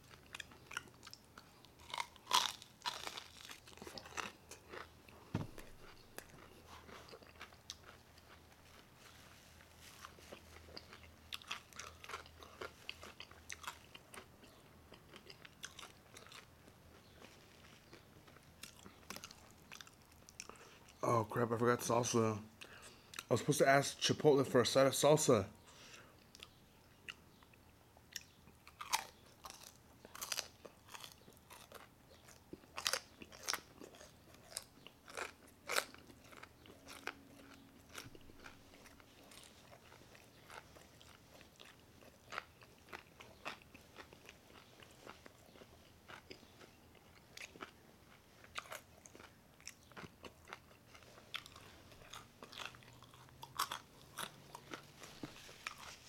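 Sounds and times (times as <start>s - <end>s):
crunchy biting and chewing: 0.0s - 21.0s, 28.1s - 56.0s.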